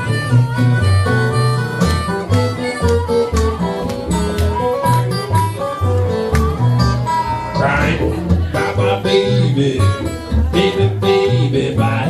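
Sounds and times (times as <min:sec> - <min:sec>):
acoustic blues guitar: 0:00.0 - 0:12.0.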